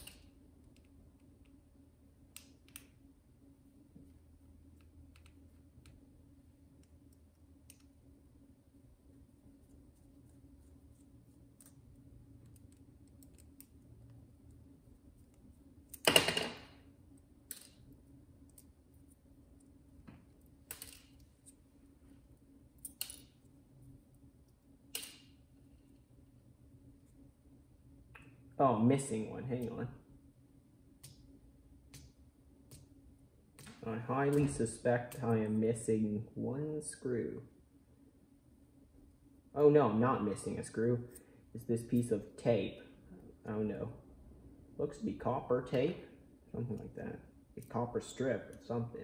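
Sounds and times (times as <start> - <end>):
low room hum: 0.0 - 49.0.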